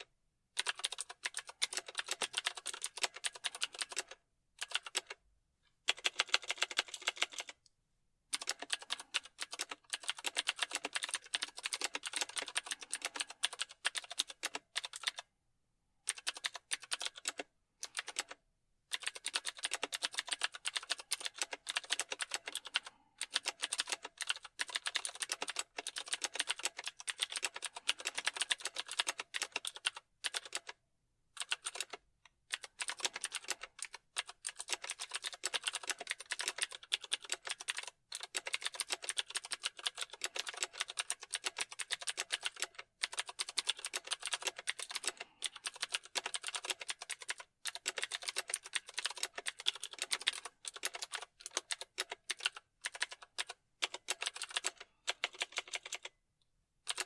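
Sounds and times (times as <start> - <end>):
computer keyboard typing: 0.6 - 5.2, 5.9 - 7.6, 8.3 - 15.3, 16.0 - 30.8, 31.4 - 56.2.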